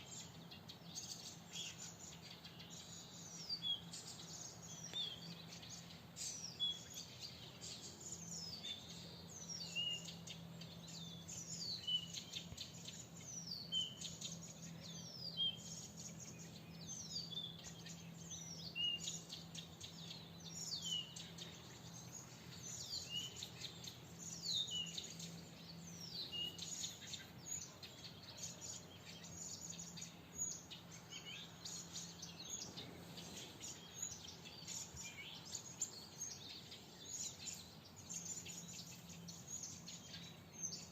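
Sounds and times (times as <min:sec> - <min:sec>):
birds twittering: 0:00.0 - 0:40.9
faint low hum: 0:00.0 - 0:40.9.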